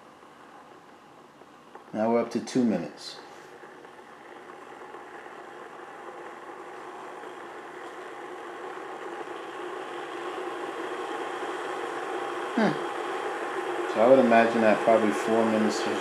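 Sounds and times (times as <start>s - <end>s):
kettle water bubbling hiss: 0.0s - 16.0s.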